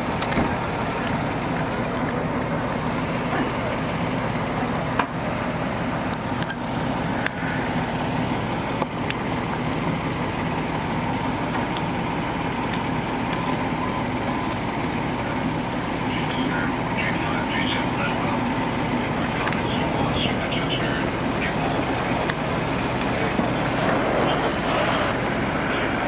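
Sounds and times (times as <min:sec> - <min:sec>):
fire engine running: 0:00.0 - 0:26.0
rush of fire: 0:00.0 - 0:26.0.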